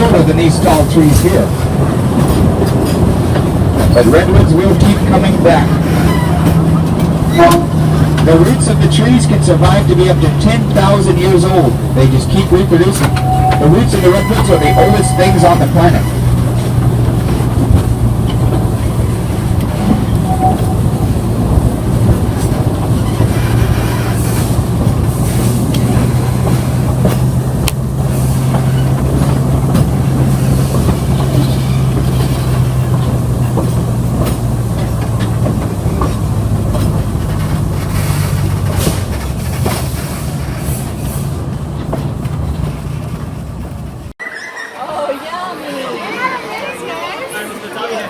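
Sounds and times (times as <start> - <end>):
wheels clicking and knocking: 0.0 - 44.1
train rumbling on track: 0.0 - 44.2.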